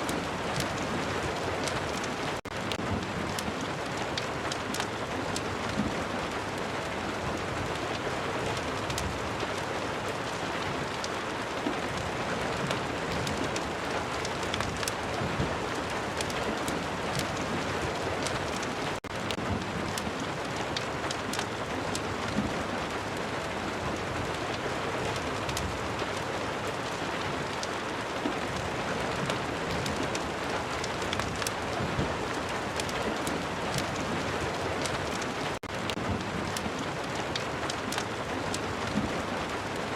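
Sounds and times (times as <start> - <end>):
raindrops ticking: 0.0 - 39.9.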